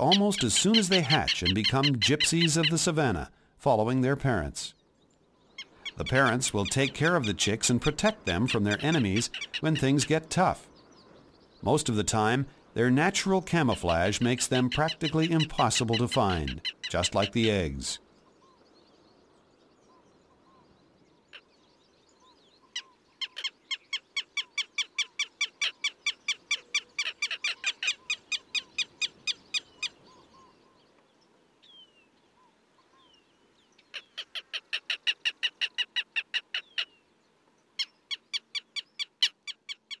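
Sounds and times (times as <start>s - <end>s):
lapwing alarm call: 0.0s - 3.4s, 4.8s - 18.8s, 19.8s - 30.9s, 31.6s - 37.1s, 37.8s - 40.0s.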